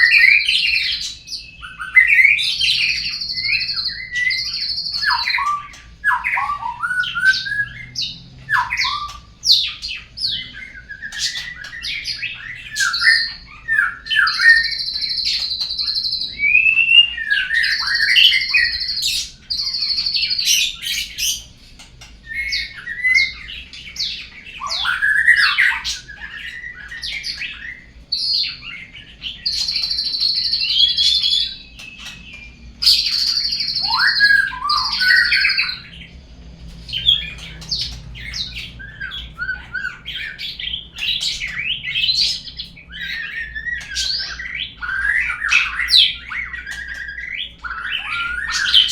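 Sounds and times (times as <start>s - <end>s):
songbird whistling and chattering: 0.0s - 36.2s, 36.8s - 48.9s.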